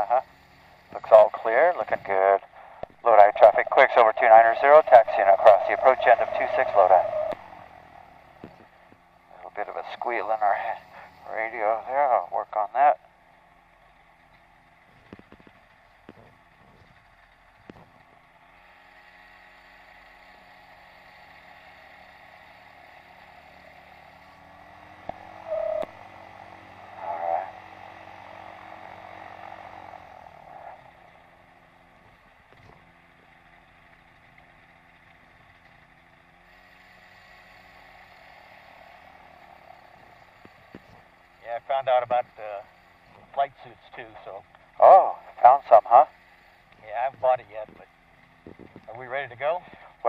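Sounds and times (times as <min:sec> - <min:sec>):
ultralight engine running: 0:00.0 - 0:50.0.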